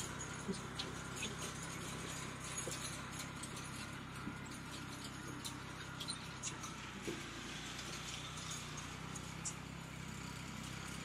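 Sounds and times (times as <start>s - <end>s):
light clicks and clinks: 0.0s - 11.0s
tractor diesel engine running: 0.0s - 11.0s.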